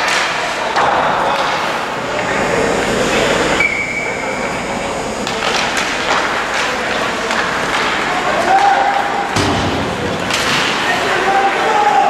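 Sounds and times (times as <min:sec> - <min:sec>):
crowd chattering and calling out: 0:00.0 - 0:12.0.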